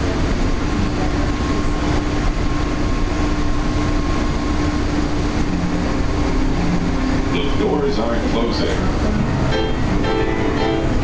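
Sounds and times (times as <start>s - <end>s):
constant low hum: 0.0s - 11.0s
train car rumble: 0.0s - 11.0s.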